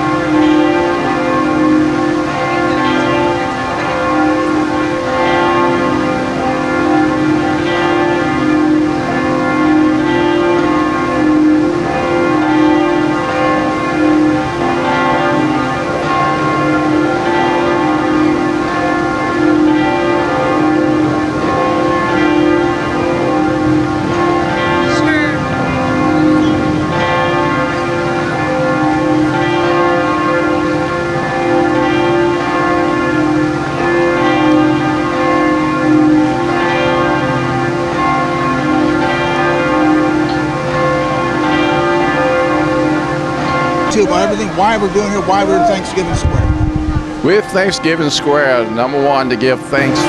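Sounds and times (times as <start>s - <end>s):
bells ringing: 0.0s - 50.0s.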